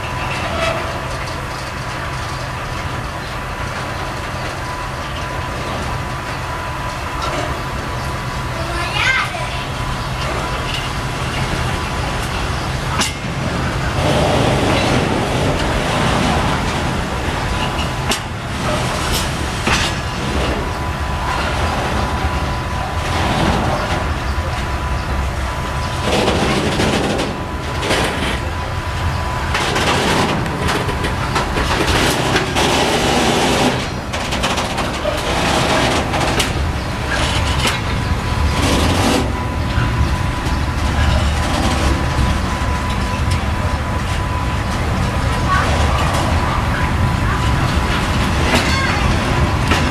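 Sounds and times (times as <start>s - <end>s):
train wheels rumbling on rail: 0.0s - 49.9s
wheels clicking over rail joints: 0.0s - 49.9s.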